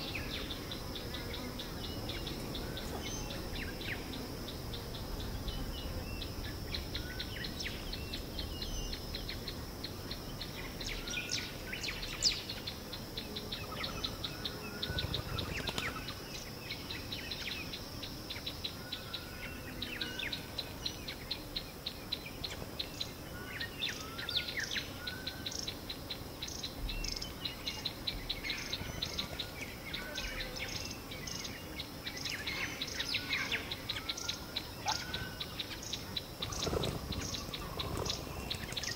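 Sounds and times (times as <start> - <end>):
high insect buzz trilling: 0.0 - 38.9.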